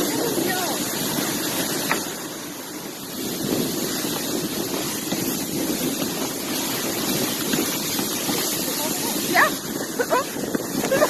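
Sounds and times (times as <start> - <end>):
sled gliding over snow: 0.0 - 11.0
wind buffeting microphone: 0.0 - 11.0.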